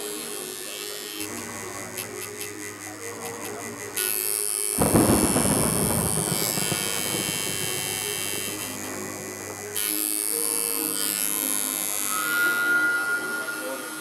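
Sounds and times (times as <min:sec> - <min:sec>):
tattoo machine buzzing: 0:00.0 - 0:13.4.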